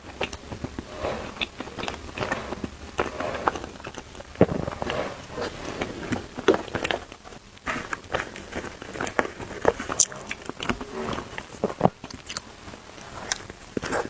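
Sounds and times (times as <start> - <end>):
biting and chewing: 0.0 - 14.0.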